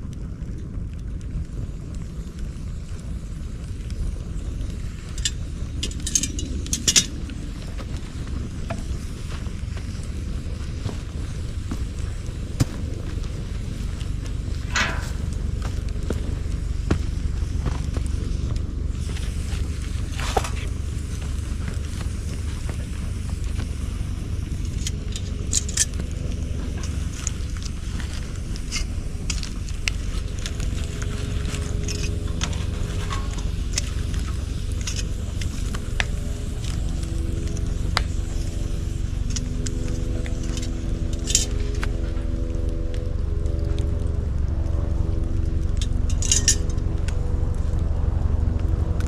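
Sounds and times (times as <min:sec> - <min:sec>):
bamboo bonfire crackling: 0:00.0 - 0:49.0
low fire rumble: 0:00.0 - 0:49.0.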